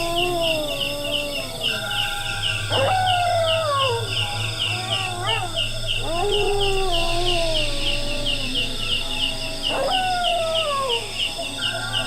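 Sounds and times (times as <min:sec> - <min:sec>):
long wailing cries: 0:00.0 - 0:12.0
steady high chirping: 0:00.0 - 0:12.0.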